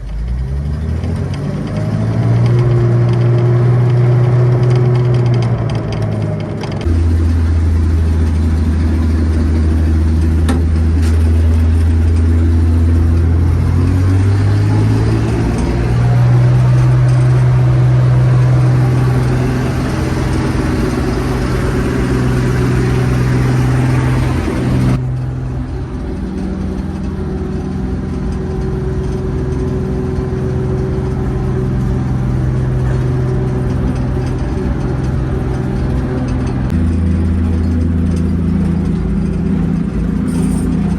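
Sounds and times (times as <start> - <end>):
combine engine running: 0.0 - 40.9.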